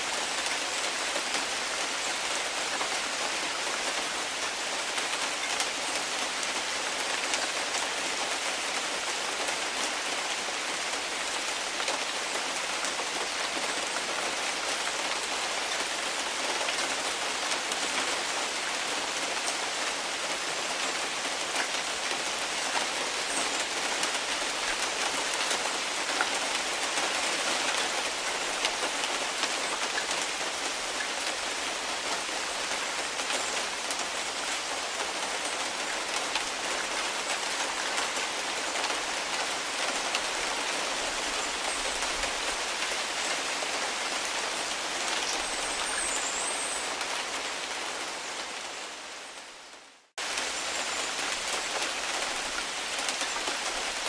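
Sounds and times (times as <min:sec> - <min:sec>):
rain on foliage: 0:00.0 - 0:54.0.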